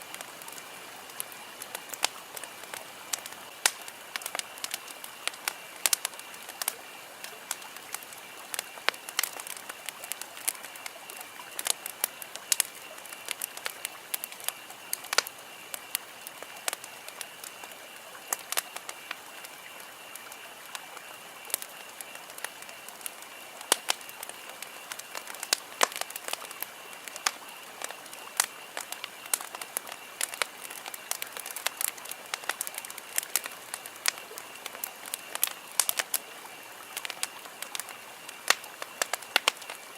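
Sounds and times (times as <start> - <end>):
campfire crackling and popping: 0.0 - 39.9
faint high-pitched hiss: 0.0 - 39.9.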